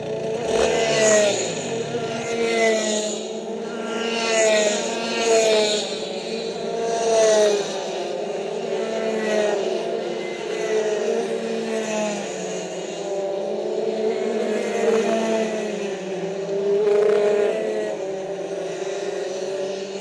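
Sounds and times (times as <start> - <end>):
kart engine running hard: 0.0 - 20.0.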